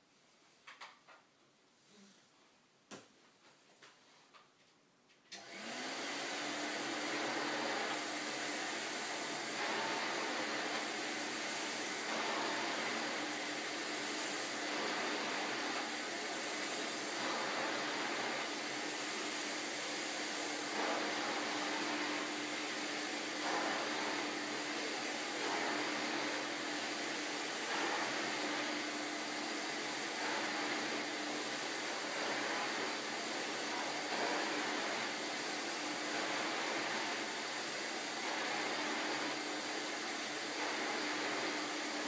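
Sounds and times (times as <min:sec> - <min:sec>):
vacuum cleaner running: 0:05.4 - 0:42.0.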